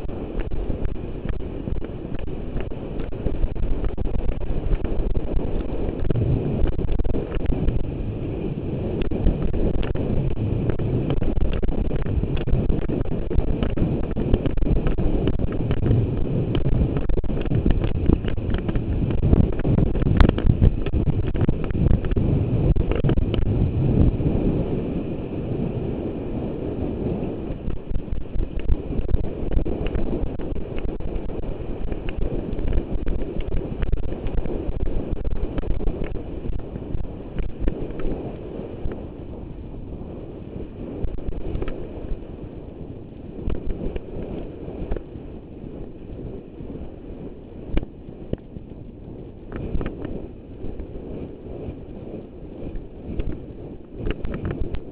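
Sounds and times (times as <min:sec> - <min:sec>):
heavy wind buffeting microphone: 0:00.0 - 0:54.9.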